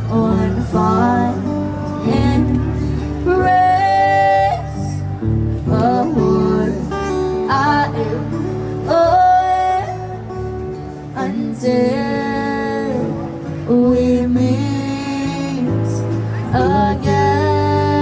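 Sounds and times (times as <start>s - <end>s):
people singing: 0.0s - 5.0s, 5.6s - 10.1s, 11.2s - 18.0s
acoustic guitar: 0.0s - 18.0s.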